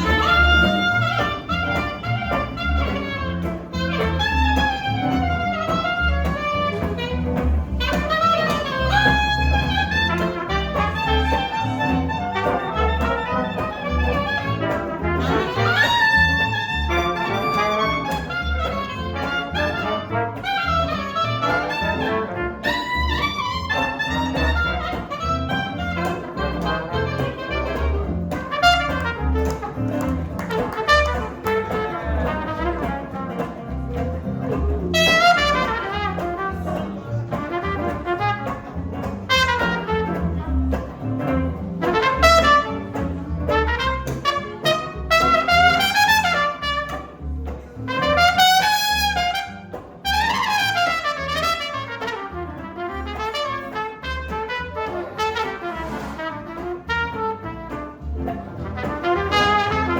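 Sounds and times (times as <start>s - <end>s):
brass horn melody: 0.0s - 34.0s, 34.9s - 59.9s
bass line: 0.0s - 59.9s
jazz band playing: 0.0s - 59.9s.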